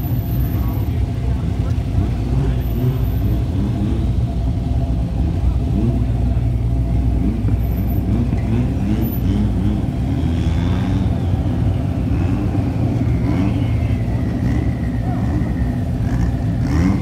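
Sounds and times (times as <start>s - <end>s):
drag car engines rumbling: 0.0s - 17.0s.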